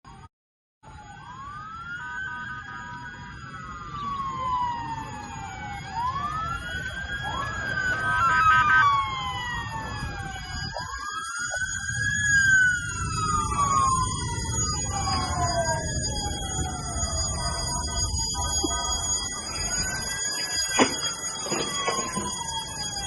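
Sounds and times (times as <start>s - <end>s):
emergency sirens wailing: 0.1s - 23.0s
low traffic rumble: 0.9s - 23.0s.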